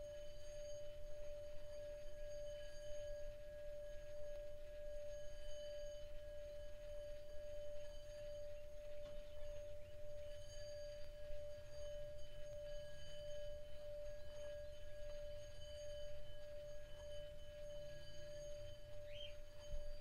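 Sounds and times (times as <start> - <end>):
singing bowl ringing tone: 0.0 - 20.0.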